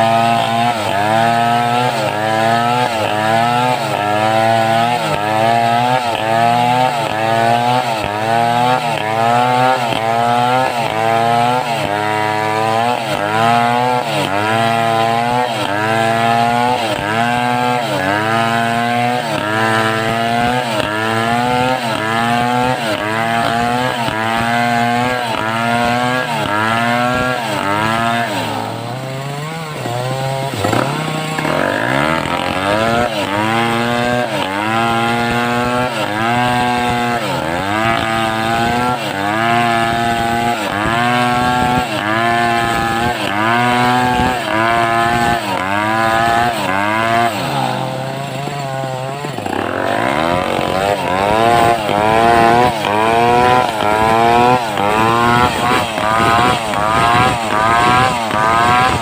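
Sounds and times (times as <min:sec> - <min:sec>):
chainsaw ripping log under load: 0:00.0 - 0:59.0.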